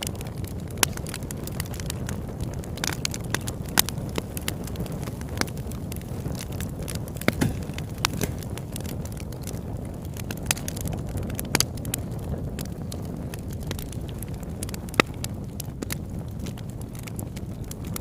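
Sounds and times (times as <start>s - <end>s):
campfire burning: 0.0s - 18.0s
fire crackles and pops: 0.0s - 18.0s.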